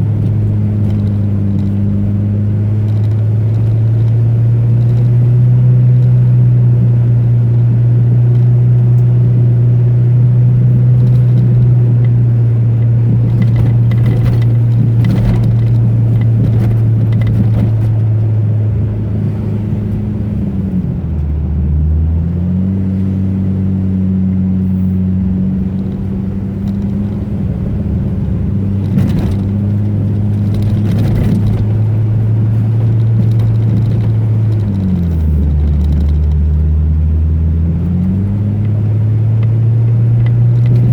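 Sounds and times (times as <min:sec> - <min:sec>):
car bumps and rattles: 0:00.0 - 0:23.2, 0:24.4 - 0:40.9
car engine running: 0:00.0 - 0:40.9.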